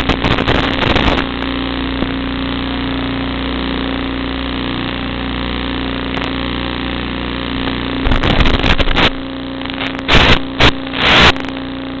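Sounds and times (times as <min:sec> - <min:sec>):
drone motors humming: 0:00.0 - 0:12.0
loud rough noise bursts: 0:00.0 - 0:12.0.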